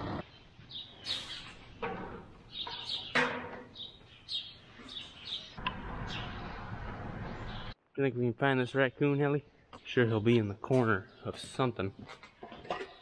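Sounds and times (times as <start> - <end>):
small birds chirping: 0.2 - 7.8, 8.7 - 13.0.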